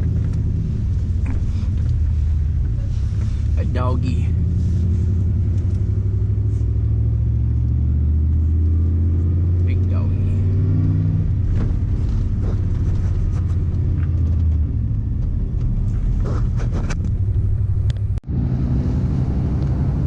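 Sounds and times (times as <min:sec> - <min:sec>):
road rumble: 0:00.0 - 0:20.0
truck engine drone: 0:00.0 - 0:20.0.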